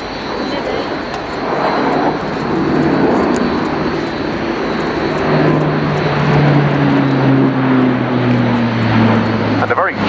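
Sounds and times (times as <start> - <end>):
turboprop aircraft droning: 0.0 - 10.0.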